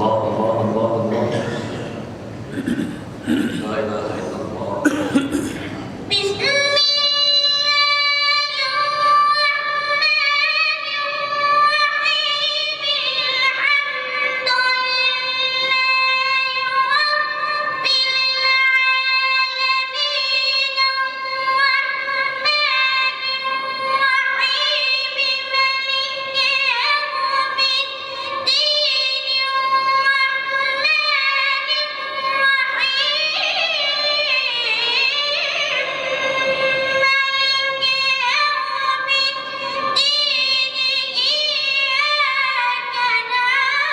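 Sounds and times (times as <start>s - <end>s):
high voice singing unaccompanied: 6.1s - 43.9s.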